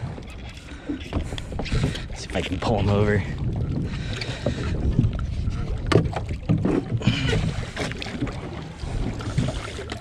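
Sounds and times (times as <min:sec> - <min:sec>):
fishing gear clattering on boat: 0:00.1 - 0:10.0.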